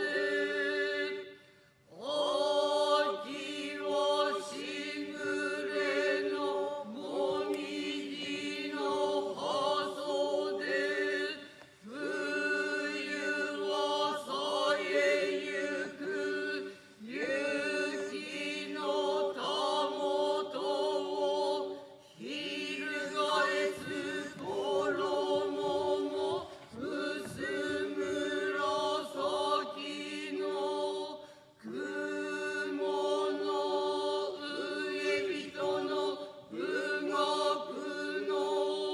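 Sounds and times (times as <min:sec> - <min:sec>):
chorus chanting in unison: 0:00.0 - 0:38.9.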